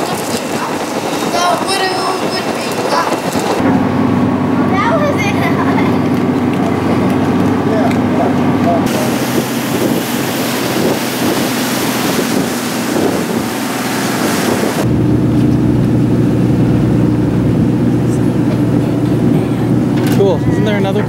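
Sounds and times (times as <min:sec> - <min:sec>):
boat engine droning: 0:00.0 - 0:21.0
rushing wind and water: 0:00.0 - 0:21.0.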